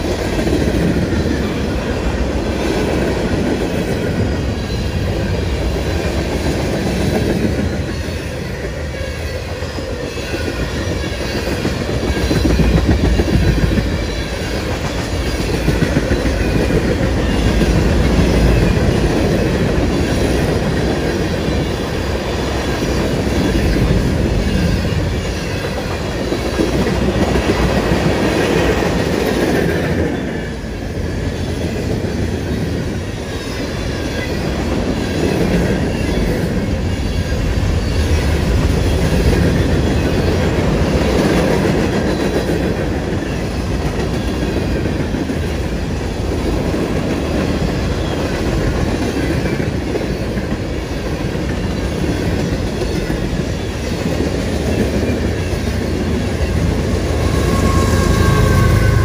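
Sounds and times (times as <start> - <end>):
freight train wheels clacking: 0.0 - 59.0.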